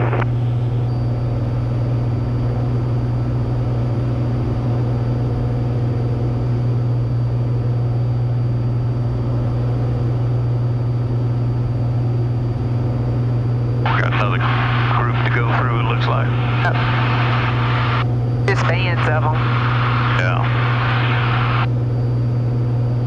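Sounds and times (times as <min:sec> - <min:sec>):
aircraft engine and propeller drone: 0:00.0 - 0:23.0
faint high whine: 0:00.0 - 0:23.0.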